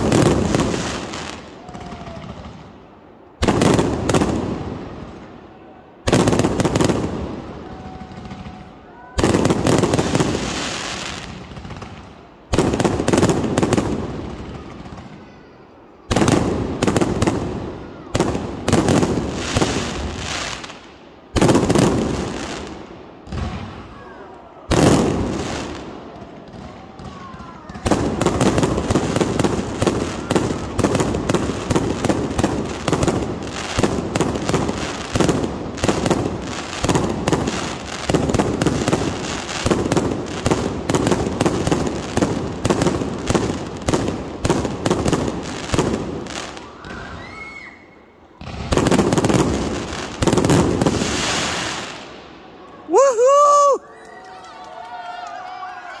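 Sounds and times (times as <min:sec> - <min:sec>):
fireworks bangs and crackling: 0:00.0 - 0:53.8.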